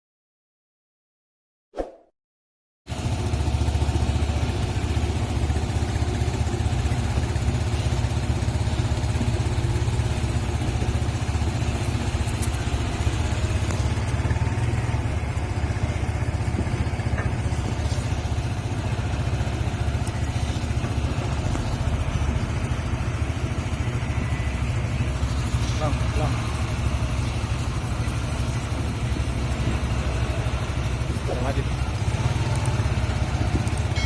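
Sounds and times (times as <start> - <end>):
truck engine running: 2.9 - 34.0.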